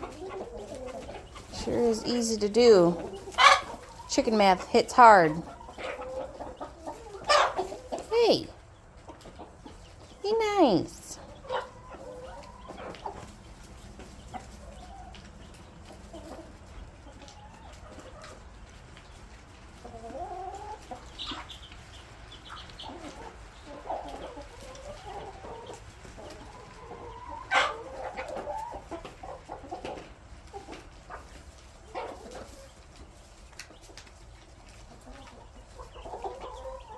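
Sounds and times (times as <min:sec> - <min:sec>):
hens clucking: 0:00.0 - 0:36.9.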